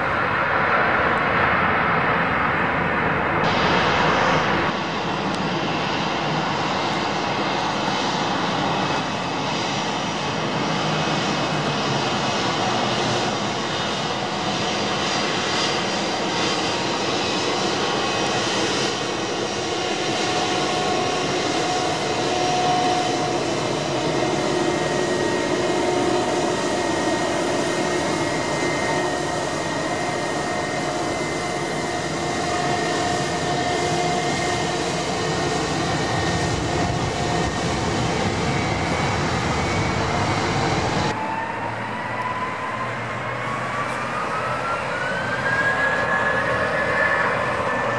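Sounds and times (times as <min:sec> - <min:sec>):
jet engines rushing with whine: 0:00.0 - 0:47.9.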